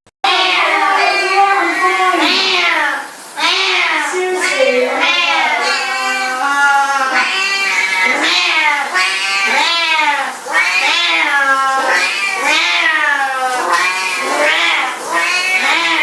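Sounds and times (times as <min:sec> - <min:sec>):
cat meowing: 0:00.3 - 0:16.0.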